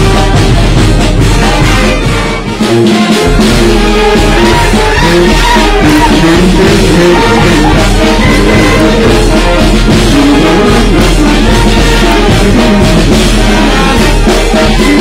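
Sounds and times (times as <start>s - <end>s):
loud band music: 0.0s - 15.0s
steady drum beat: 0.0s - 15.0s.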